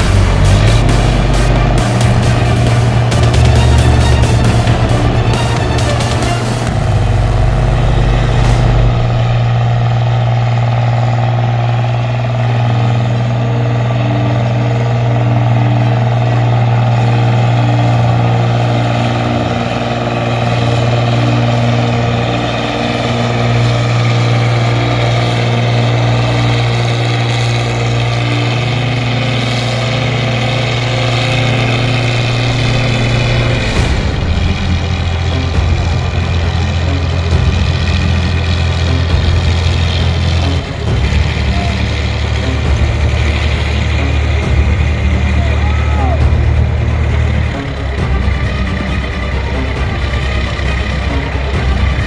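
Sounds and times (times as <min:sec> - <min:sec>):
diesel engine humming: 0:00.0 - 0:52.0.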